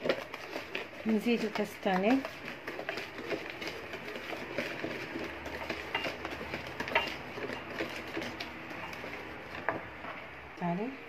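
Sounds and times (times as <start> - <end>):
whisk wires clicking on bowl: 0.0 - 9.9
whisk swishing through batter: 0.0 - 10.3.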